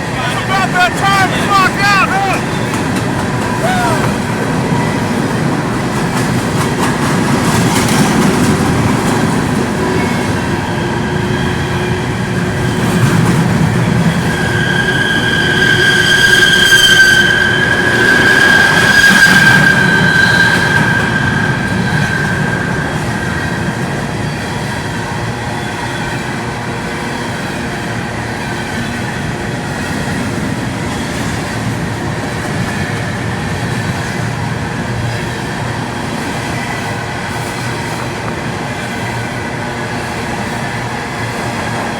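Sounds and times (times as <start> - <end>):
train rumble: 0.0 - 41.9
train wheels squealing on rails: 0.0 - 41.9.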